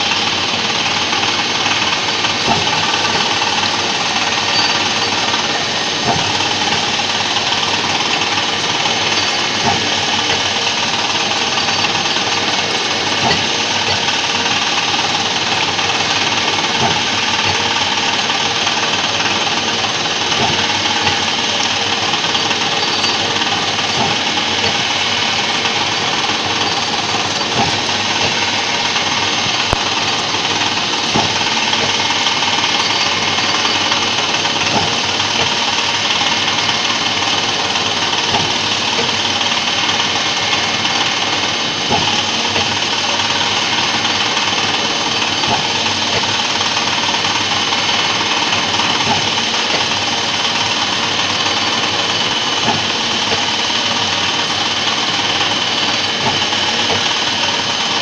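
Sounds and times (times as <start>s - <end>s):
milling machine cutting metal: 0.0s - 58.0s.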